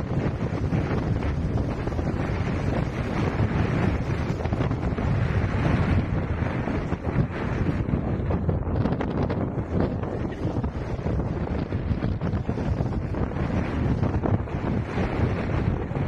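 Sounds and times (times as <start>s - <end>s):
ocean surf: 0.0s - 16.0s
wind across microphone: 0.0s - 16.0s.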